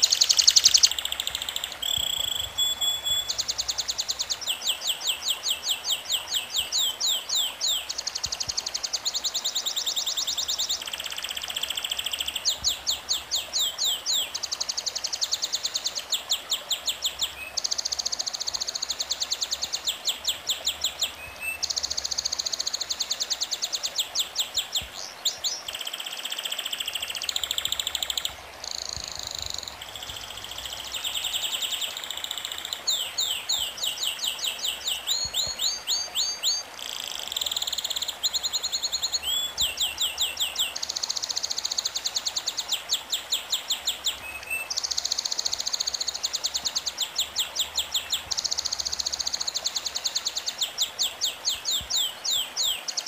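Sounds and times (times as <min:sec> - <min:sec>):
songbird chirps and trills: 0:00.0 - 0:53.0.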